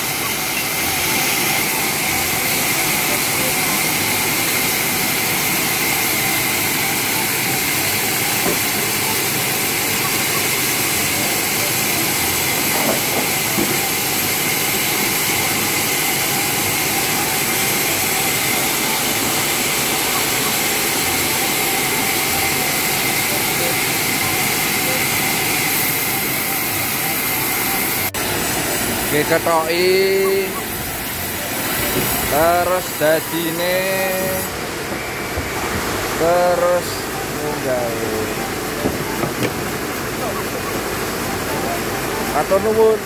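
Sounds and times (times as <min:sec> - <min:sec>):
band saw cutting log: 0:00.0 - 0:35.1.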